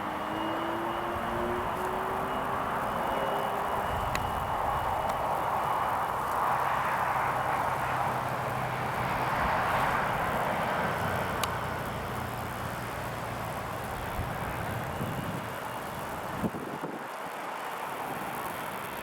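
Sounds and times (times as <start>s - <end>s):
distant jet engines running: 0.0s - 19.0s.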